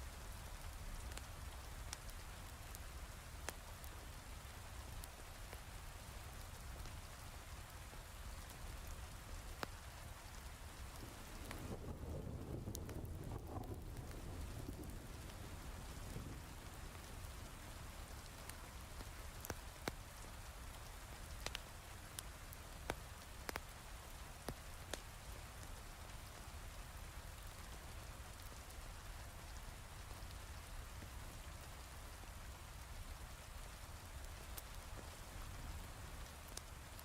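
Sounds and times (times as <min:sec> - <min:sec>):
wood fire crackling pops: 0:00.3 - 0:37.0
heavy rain falling: 0:04.6 - 0:37.0.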